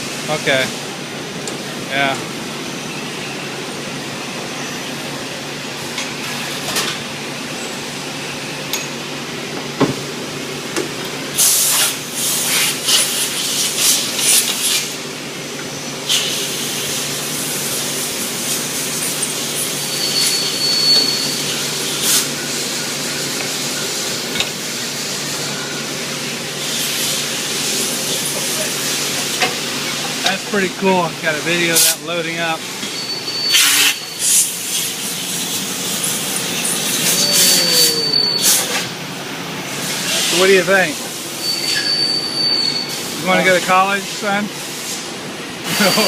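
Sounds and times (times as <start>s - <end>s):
machinery hum: 0.0s - 46.0s.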